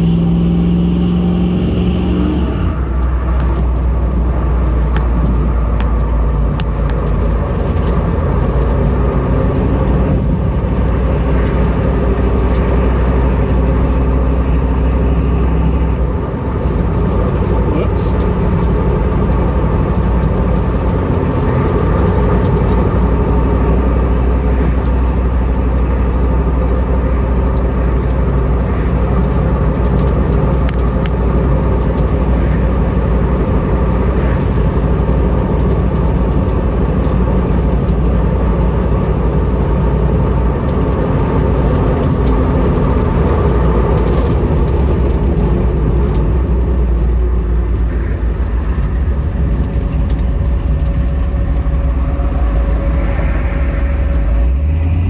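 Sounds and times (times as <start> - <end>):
car engine drone: 0.0 - 55.0
road noise: 0.0 - 55.0.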